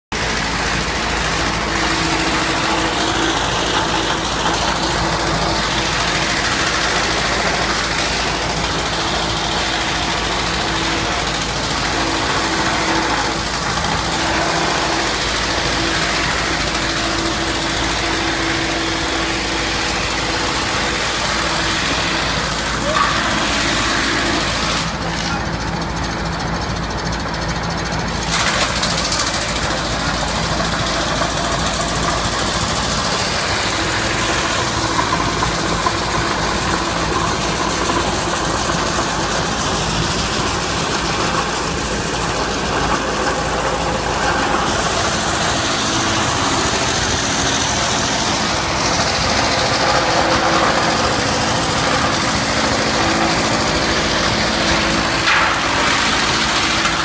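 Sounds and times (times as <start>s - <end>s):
loud wood cutting noise: 0.0s - 57.0s
machine hum: 0.1s - 57.0s.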